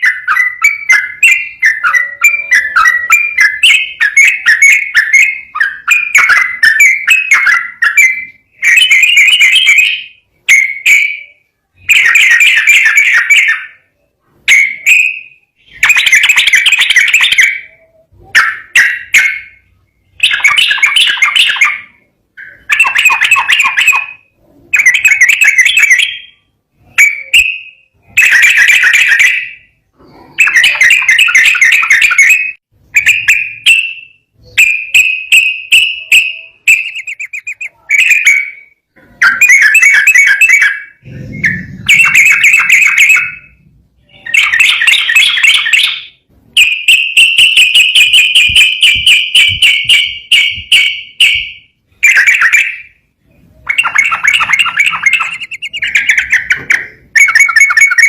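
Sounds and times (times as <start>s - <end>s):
bird singing bubbly song: 0.0s - 58.0s.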